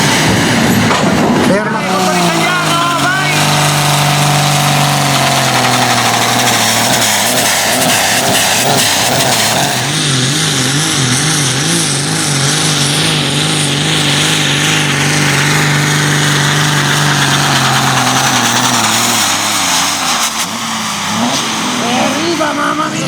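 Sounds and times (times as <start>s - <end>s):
tractor engine running hard: 0.0s - 23.0s.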